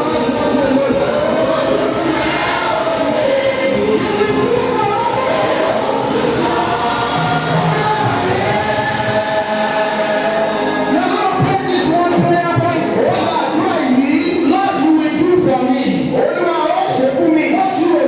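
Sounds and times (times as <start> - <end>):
musical accompaniment: 0.0 - 15.4
choir singing gospel: 0.0 - 18.0.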